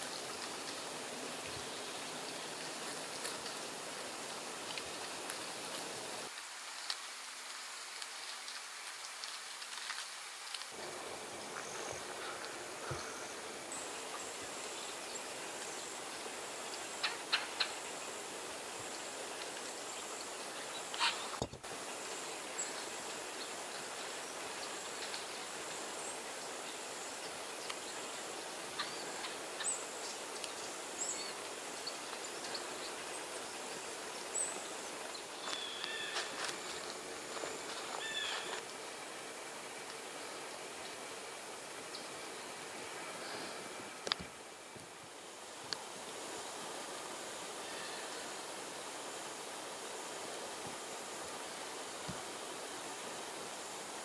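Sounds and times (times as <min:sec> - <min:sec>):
high insect whine: 0:10.0 - 0:54.0.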